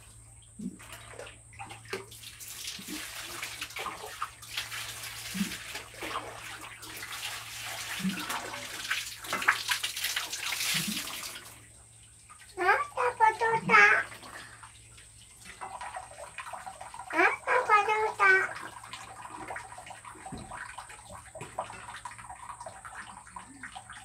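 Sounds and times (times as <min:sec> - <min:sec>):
water splashing in a basin: 0:00.0 - 0:24.0.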